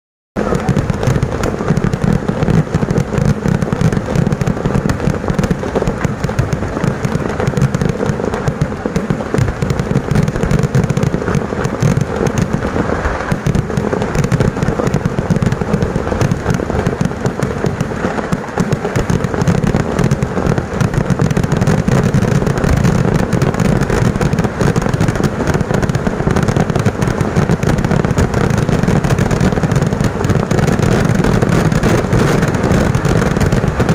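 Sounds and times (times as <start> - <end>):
fireworks exploding rapidly: 0.4 - 33.9.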